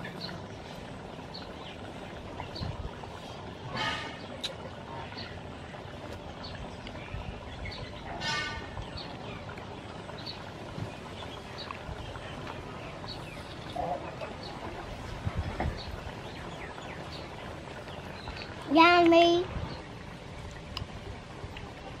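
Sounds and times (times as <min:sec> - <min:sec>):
birds chirping: 0:00.0 - 0:20.1.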